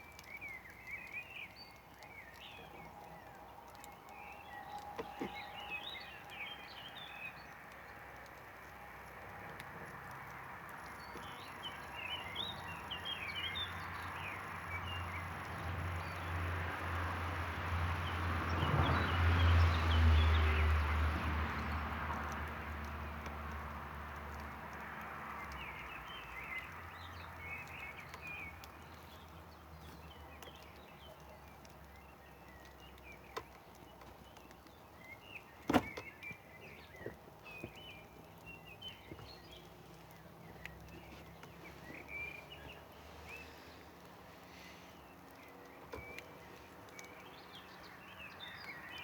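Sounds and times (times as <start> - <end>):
birds chirping: 0.0 - 49.0
campfire crackling: 0.0 - 49.0.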